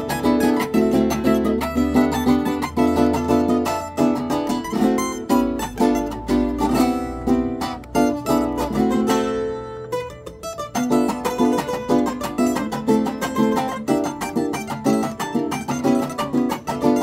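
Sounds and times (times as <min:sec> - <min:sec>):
mandolin plucked melody: 0:00.0 - 0:17.0
strummed cuatro: 0:00.0 - 0:17.0.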